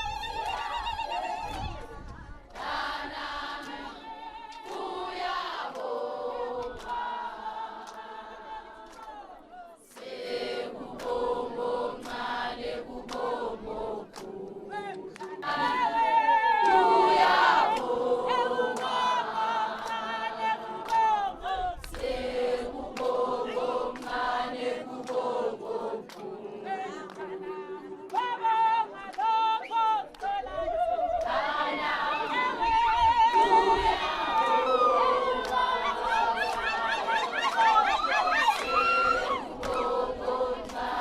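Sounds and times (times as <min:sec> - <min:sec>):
group singing unaccompanied: 0:00.0 - 0:41.0.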